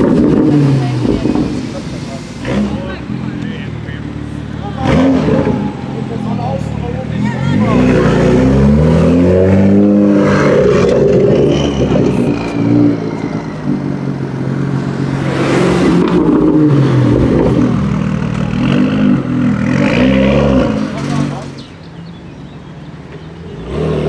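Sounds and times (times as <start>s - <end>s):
car engine revving: 0.0s - 24.0s
second car engine revving: 0.0s - 24.0s.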